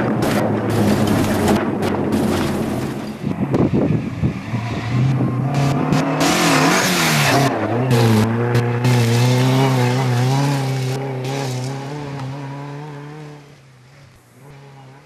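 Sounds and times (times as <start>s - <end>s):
in-car engine and road noise: 0.0s - 15.0s
rally car engine revving: 0.0s - 15.0s.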